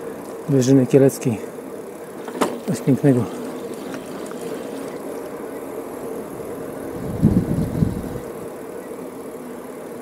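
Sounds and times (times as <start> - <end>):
bicycle tyres humming on asphalt: 0.0 - 10.0.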